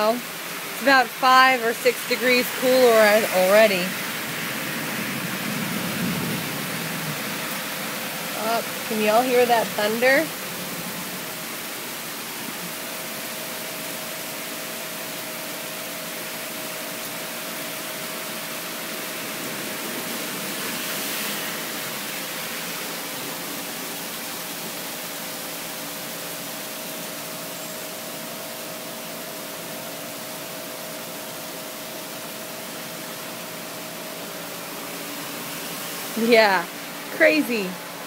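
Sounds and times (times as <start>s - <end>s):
heavy rain hissing: 0.0s - 38.0s.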